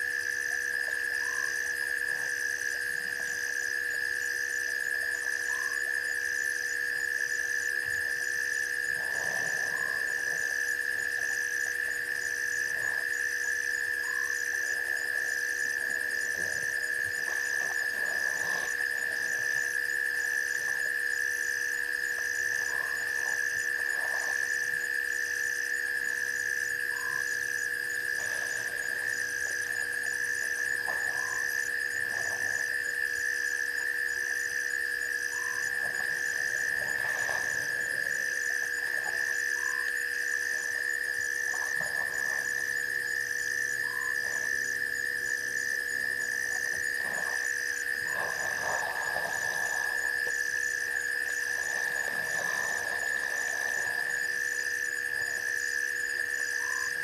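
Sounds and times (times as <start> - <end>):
insects high-pitched drone: 0.0 - 57.0
short frog calls: 0.0 - 57.0.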